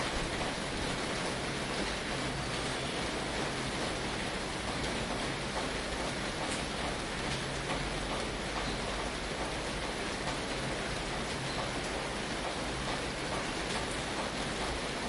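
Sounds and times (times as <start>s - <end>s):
rain on a tin roof: 0.0s - 15.0s.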